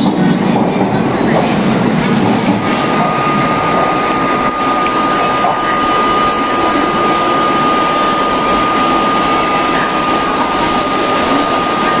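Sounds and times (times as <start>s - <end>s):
electric train rushing noise: 0.0s - 12.0s
thin high tone: 1.3s - 12.0s.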